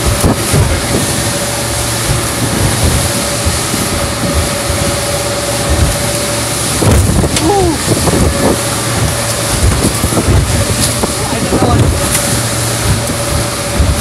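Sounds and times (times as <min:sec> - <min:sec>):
steady hum: 0:00.0 - 0:14.0
water splashing against hull: 0:00.0 - 0:14.0
wind buffeting microphone: 0:00.0 - 0:14.0.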